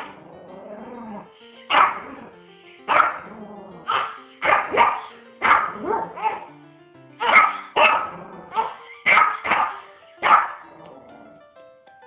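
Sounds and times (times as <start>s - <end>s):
small dog barking: 0.0s - 2.3s, 2.9s - 6.5s, 7.2s - 11.2s.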